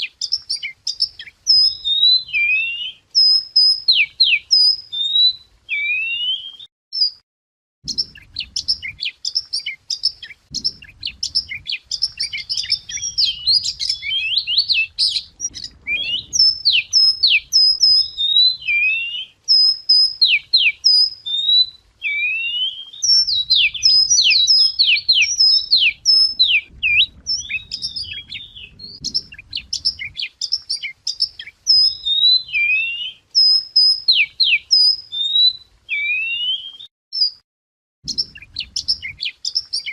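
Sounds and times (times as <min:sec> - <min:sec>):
songbird singing whistled notes: 0:00.0 - 0:07.2, 0:07.8 - 0:37.4, 0:38.0 - 0:39.9.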